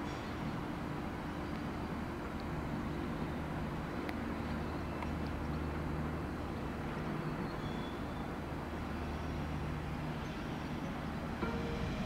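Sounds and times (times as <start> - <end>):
electric train hum: 0.0 - 12.0
train rumble: 0.0 - 12.0.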